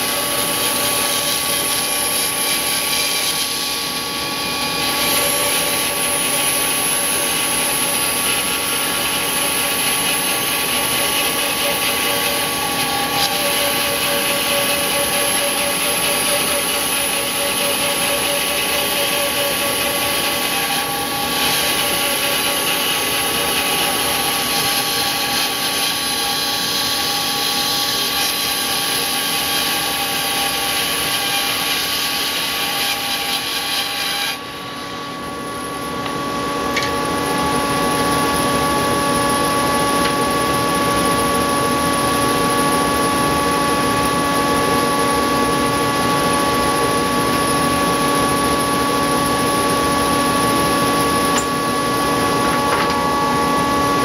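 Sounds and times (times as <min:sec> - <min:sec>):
bandsaw motor hum: 0:00.0 - 0:54.0.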